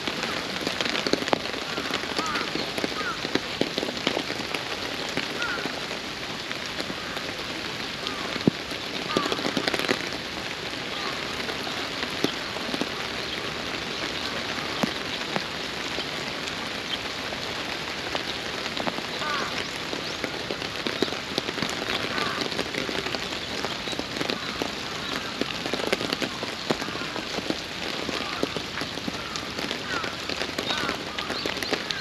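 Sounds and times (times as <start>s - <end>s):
raindrops ticking: 0.0s - 32.0s
steady rain falling: 0.0s - 32.0s.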